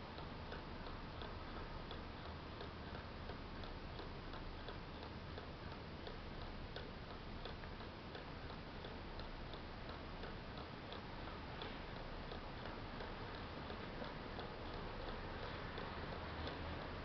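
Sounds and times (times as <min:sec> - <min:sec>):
pendulum clock ticking: 0:00.0 - 0:17.0.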